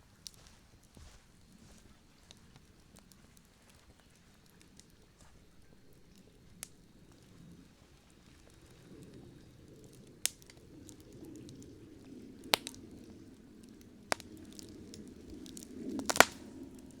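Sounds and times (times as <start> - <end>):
campfire flames rushing: 0.0 - 17.0
wood popping and crackling: 0.0 - 17.0.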